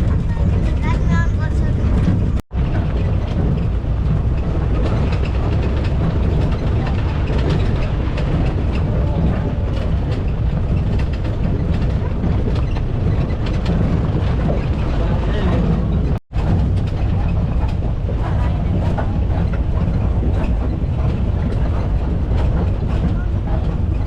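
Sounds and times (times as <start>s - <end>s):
vehicle engine and road rumble: 0.0s - 24.0s
vehicle rattles and knocks: 0.0s - 24.0s.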